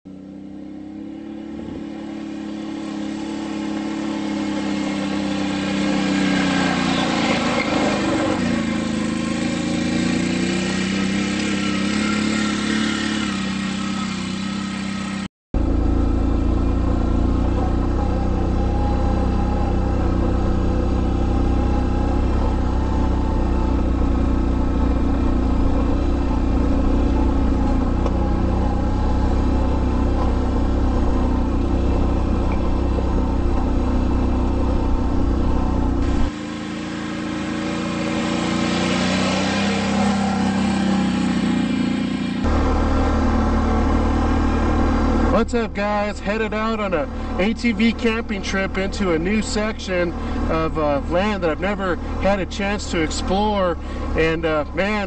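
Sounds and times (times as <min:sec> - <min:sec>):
engine with low rumble: 0:00.0 - 0:55.0
quad bike engine revving: 0:00.1 - 0:55.0.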